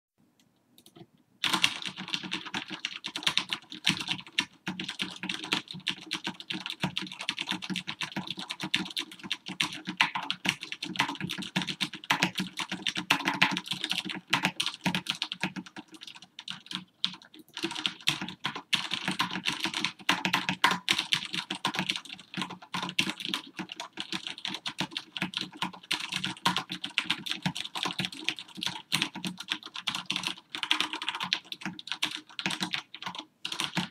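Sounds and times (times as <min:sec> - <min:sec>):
mechanical keyboard typing: 0:00.8 - 0:33.9.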